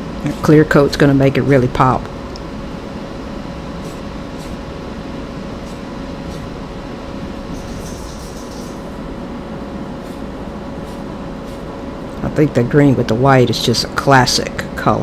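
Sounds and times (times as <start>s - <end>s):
exhaust fan humming: 0.0s - 15.0s.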